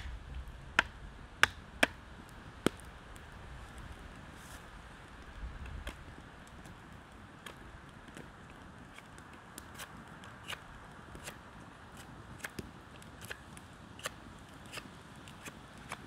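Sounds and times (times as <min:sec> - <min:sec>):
faint steady hiss: 0:00.0 - 0:16.0
wood fire crackling: 0:00.0 - 0:16.0.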